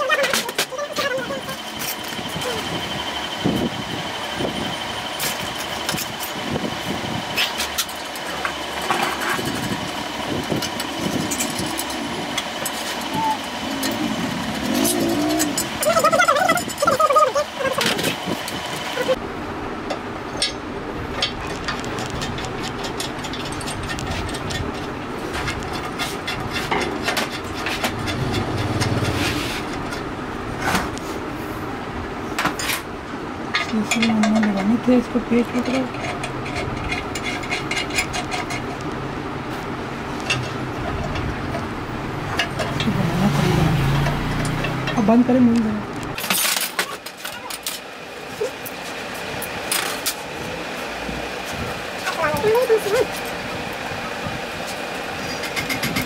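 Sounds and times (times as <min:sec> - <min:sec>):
workshop machinery running: 0:00.0 - 0:56.0.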